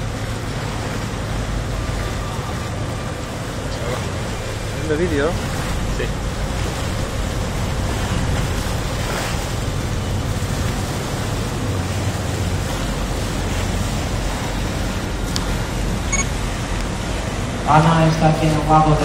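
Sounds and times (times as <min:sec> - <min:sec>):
sea water washing around boat: 0:00.0 - 0:19.0.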